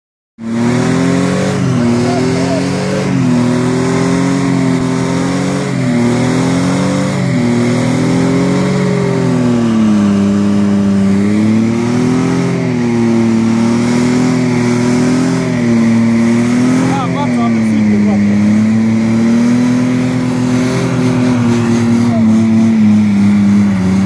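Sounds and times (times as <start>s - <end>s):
engine revving hard: 0.4s - 24.0s.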